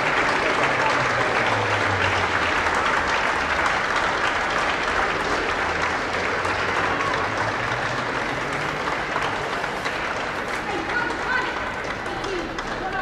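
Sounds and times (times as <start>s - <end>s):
spectators clapping: 0.0s - 13.0s.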